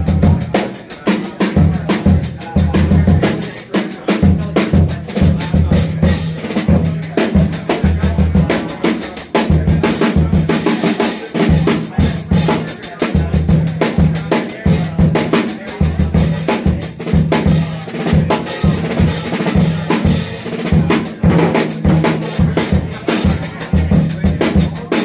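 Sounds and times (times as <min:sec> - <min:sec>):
drum kit solo: 0:00.0 - 0:25.0.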